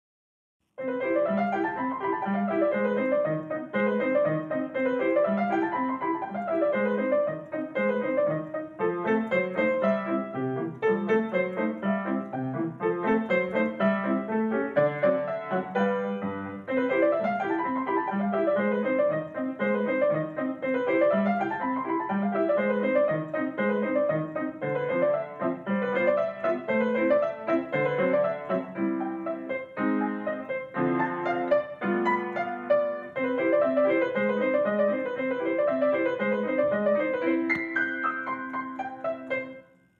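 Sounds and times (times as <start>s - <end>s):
solo piano piece: 0.6s - 39.9s.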